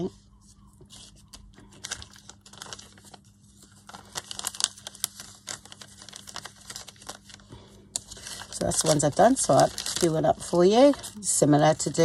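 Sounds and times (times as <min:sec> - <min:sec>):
paper pieces shuffled on a mat: 0:00.4 - 0:12.0
plastic sheet crinkling: 0:00.8 - 0:12.0.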